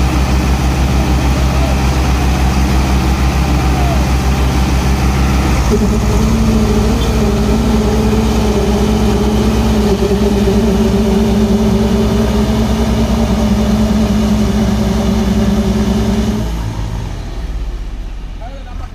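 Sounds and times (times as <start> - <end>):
tractor engines running under load: 0.0 - 18.9.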